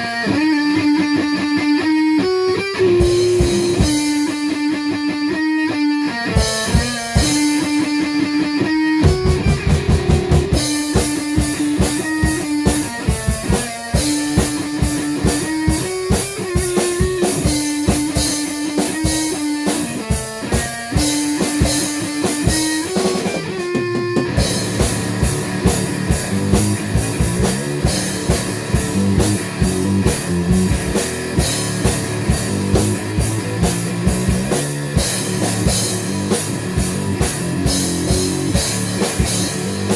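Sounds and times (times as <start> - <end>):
drum kit beat: 0.0 - 39.9
electric guitar riff: 0.0 - 39.9
rock music: 0.0 - 39.9.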